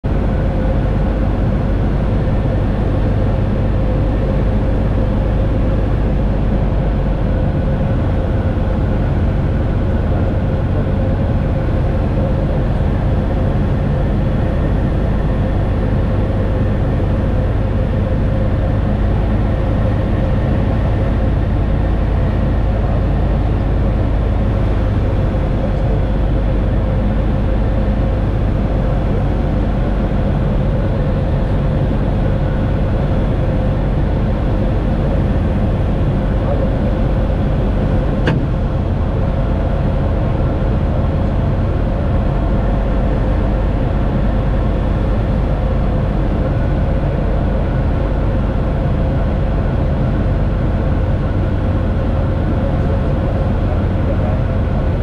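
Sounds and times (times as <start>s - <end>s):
light aircraft engine and propeller drone: 0.0s - 55.0s.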